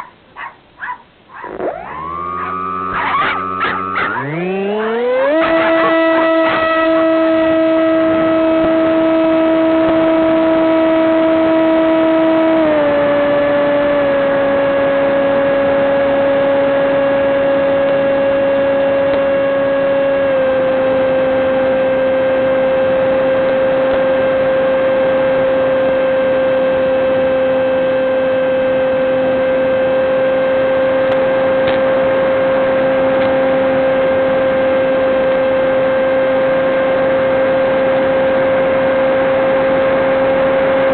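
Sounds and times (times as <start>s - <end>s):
model aircraft motor buzzing: 0.8s - 40.9s.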